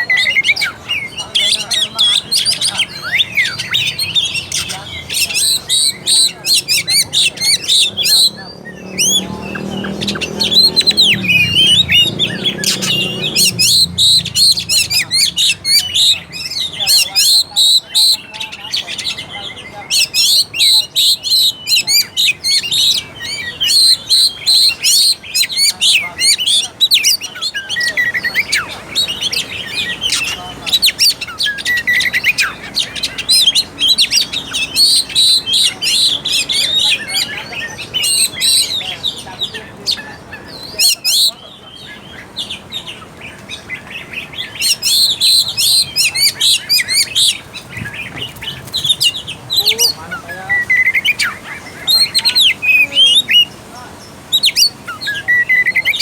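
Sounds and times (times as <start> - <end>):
songbird whistling and chattering: 0.0 - 56.0.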